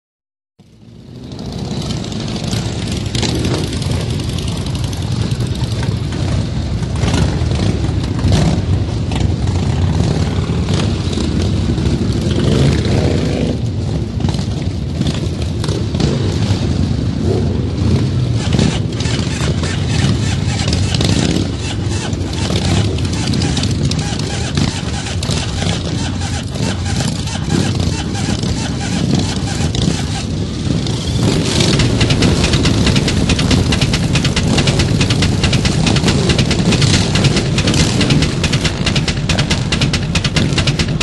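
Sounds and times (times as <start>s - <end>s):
motorcycle engines running: 0.6s - 41.0s.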